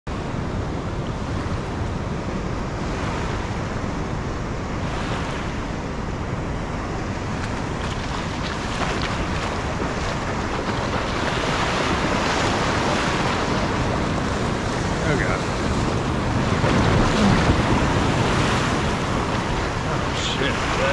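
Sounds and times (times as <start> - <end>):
ocean surf washing over sand: 0.1 - 20.9
wind rumbling on microphone: 0.1 - 20.9.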